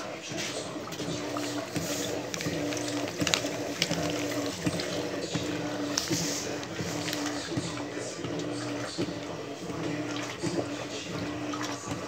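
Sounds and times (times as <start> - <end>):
washing machine motor humming: 0.0 - 12.0
water sloshing in drum: 0.0 - 12.0.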